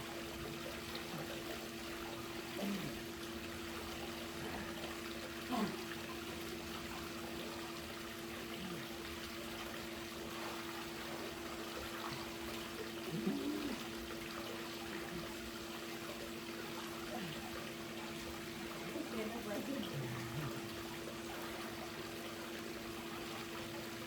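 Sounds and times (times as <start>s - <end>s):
pool water splashing and trickling: 0.0s - 24.0s.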